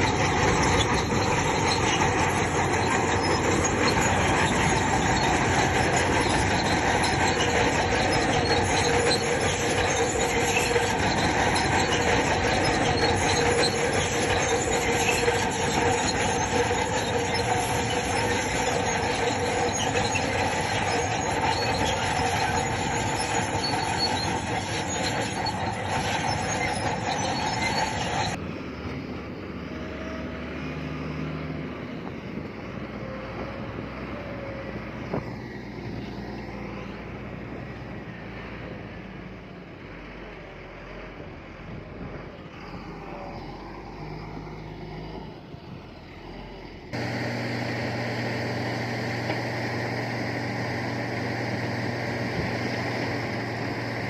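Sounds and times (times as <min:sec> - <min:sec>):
steel tracks squealing and clanking: 0:00.0 - 0:28.4, 0:29.6 - 0:39.2, 0:39.9 - 0:54.0
bulldozer diesel engine under load: 0:00.0 - 0:54.0.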